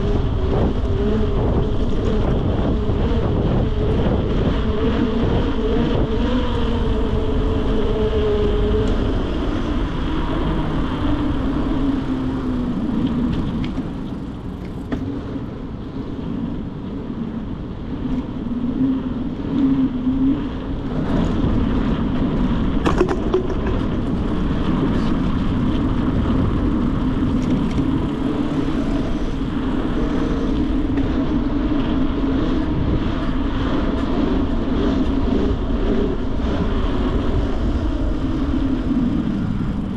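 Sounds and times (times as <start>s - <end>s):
bicycle tyre hum: 0.0s - 39.9s
wind rushing over microphone: 0.0s - 39.9s.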